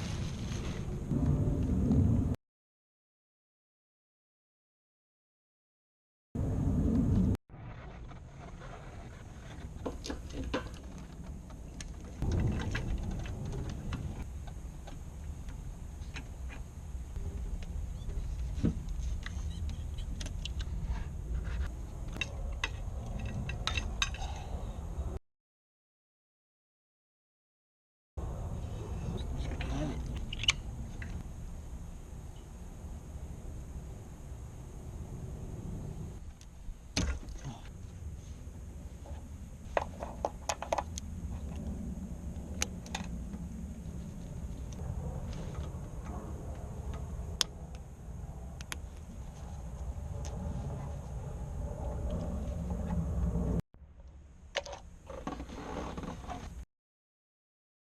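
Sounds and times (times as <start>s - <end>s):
low hum: 0.0s - 2.4s, 6.4s - 25.2s, 28.2s - 55.0s
steady low rumble: 0.0s - 2.4s, 6.4s - 25.2s, 28.2s - 54.4s.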